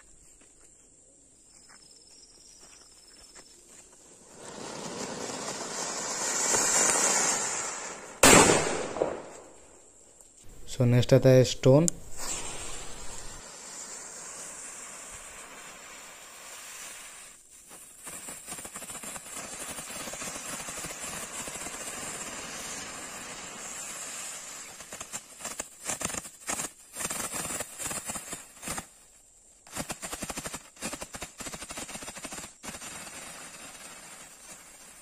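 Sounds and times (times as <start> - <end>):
firework hissing: 4.1 - 9.9, 11.7 - 35.0
firework crackling bursts: 4.1 - 10.0, 11.7 - 35.0.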